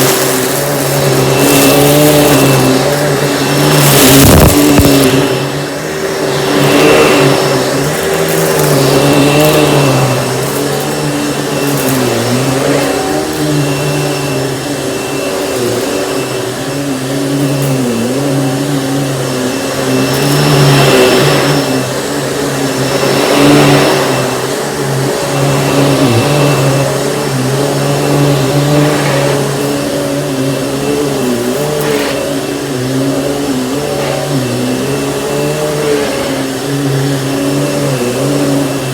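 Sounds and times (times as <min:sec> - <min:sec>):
vacuum cleaner on carpet: 0:00.0 - 0:38.9.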